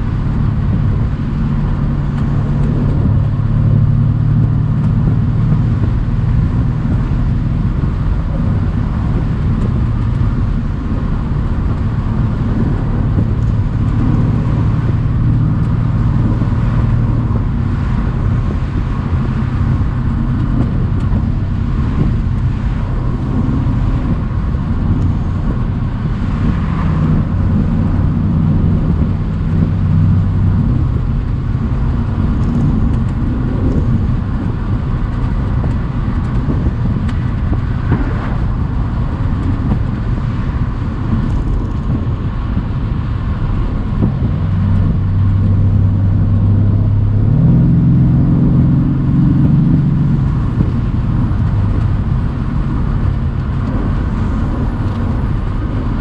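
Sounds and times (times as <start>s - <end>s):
car engine revving: 0.0s - 56.0s
road and wind noise: 0.0s - 56.0s.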